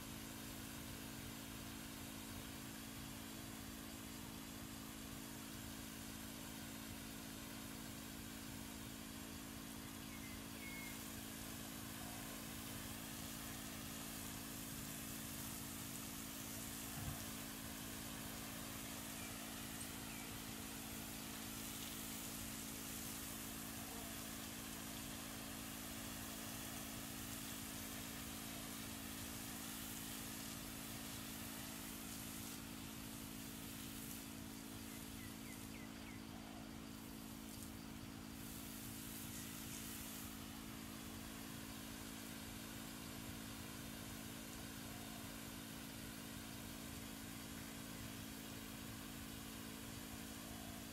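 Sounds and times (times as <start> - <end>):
constant hiss: 0.0 - 50.9
low machine hum: 2.0 - 50.4.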